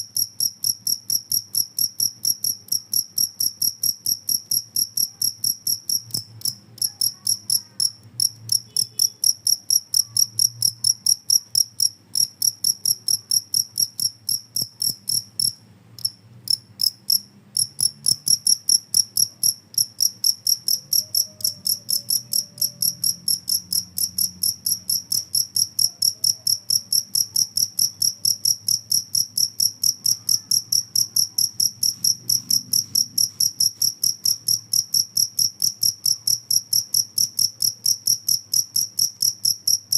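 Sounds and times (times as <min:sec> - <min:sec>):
field cricket chirping: 0:00.0 - 0:39.9.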